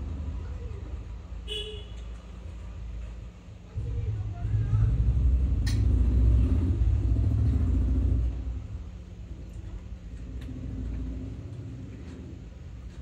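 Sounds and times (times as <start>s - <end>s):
passing vehicle rumble: 0.0s - 1.4s, 3.6s - 13.0s.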